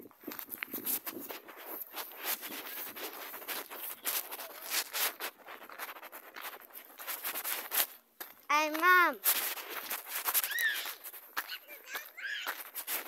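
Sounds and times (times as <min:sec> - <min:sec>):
footsteps on gravel: 0:00.0 - 0:13.0.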